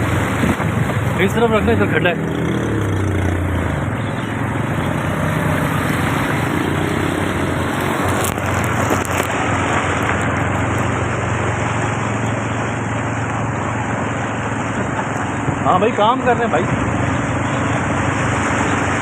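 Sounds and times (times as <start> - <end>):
low engine hum: 0.0 - 19.0
water rushing hiss: 0.0 - 19.0.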